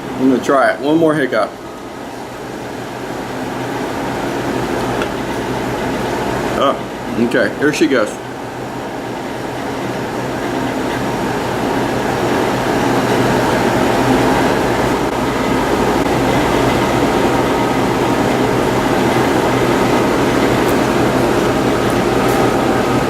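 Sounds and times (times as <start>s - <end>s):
mechanical rumble with low hum: 0.0s - 23.0s.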